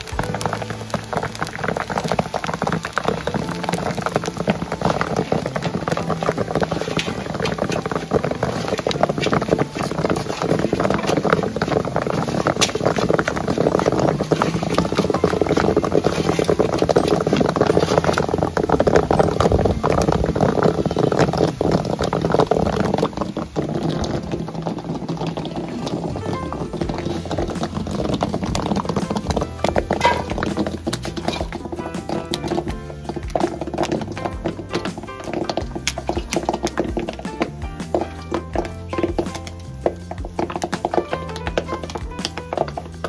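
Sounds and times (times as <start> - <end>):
popcorn popping: 0.0 - 43.0.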